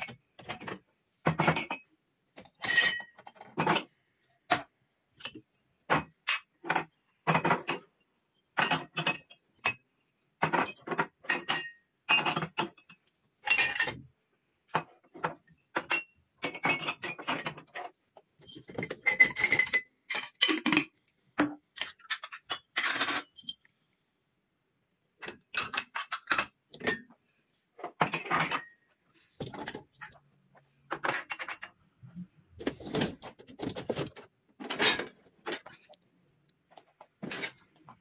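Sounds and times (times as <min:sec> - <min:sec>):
glassware and dishes clinking: 0:00.0 - 0:14.1, 0:14.7 - 0:23.7, 0:25.2 - 0:27.2, 0:27.8 - 0:31.8, 0:34.6 - 0:35.9, 0:37.2 - 0:37.8.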